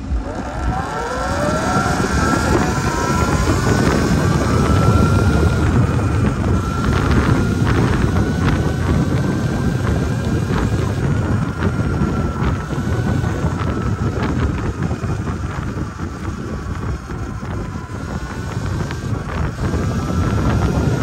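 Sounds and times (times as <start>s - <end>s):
electric motor whine: 0.0s - 21.0s
wind buffeting microphone: 0.0s - 21.0s.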